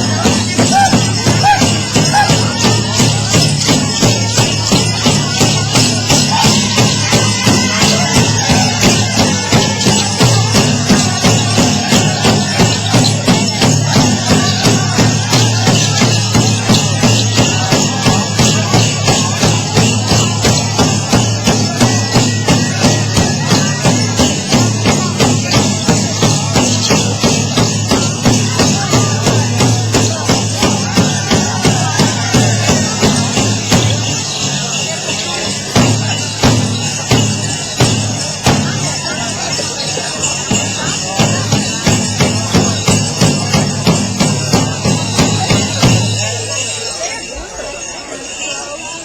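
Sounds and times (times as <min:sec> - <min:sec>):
large drum beating steadily: 0:00.0 - 0:47.6
jingling rattle: 0:00.0 - 0:49.0.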